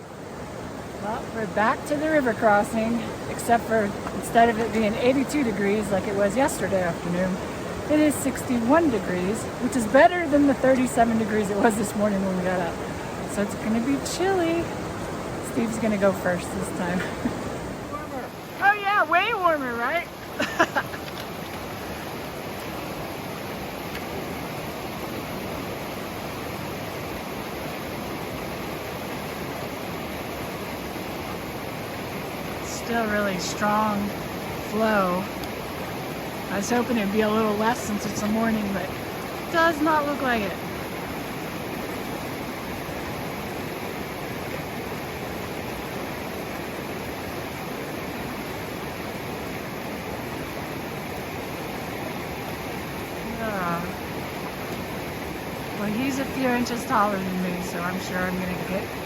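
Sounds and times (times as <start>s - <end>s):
creek rushing: 0.0s - 59.0s.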